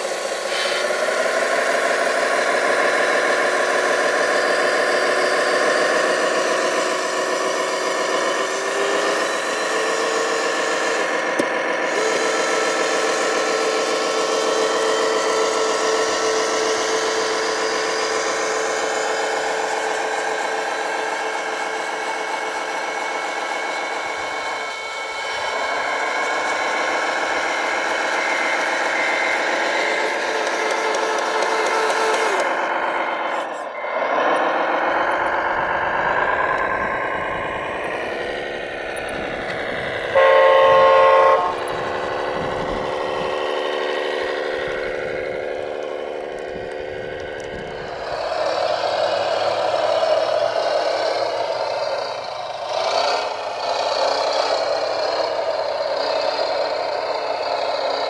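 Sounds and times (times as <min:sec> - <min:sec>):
diesel engine idling: 0:00.0 - 0:58.0
steady whine: 0:00.0 - 0:58.0.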